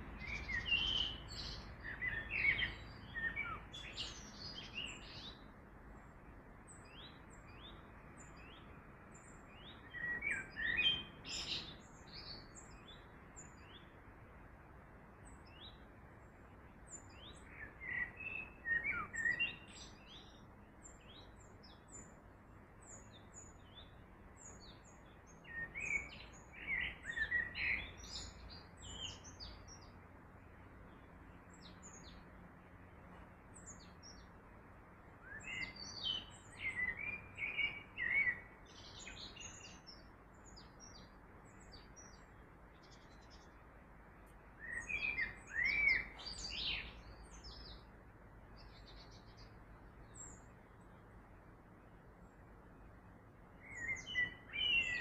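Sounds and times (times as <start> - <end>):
running river water: 0.0 - 55.0
songbirds singing: 0.0 - 55.0.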